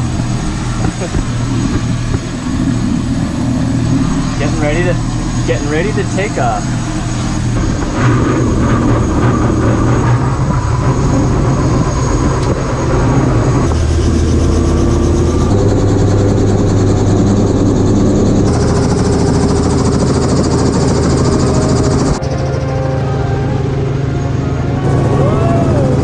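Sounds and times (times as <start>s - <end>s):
helicopter engine and rotor: 0.0s - 26.0s.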